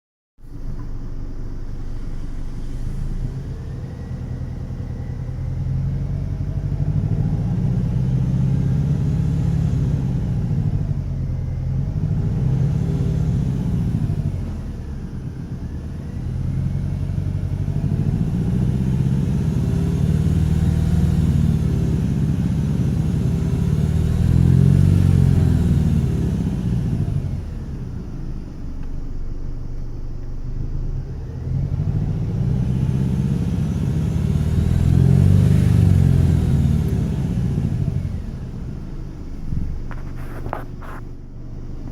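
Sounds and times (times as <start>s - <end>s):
car engine revving: 0.5s - 41.9s.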